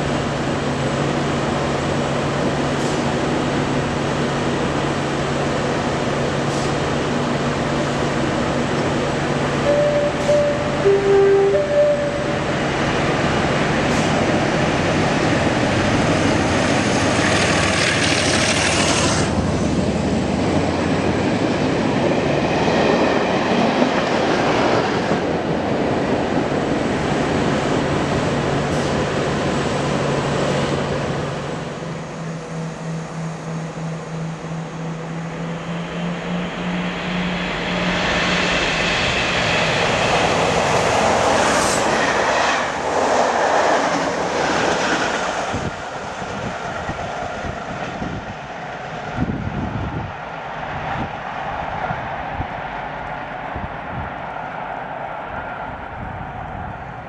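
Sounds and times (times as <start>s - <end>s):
diesel locomotive engine: 0.0s - 57.0s
train rushing past: 0.0s - 57.0s.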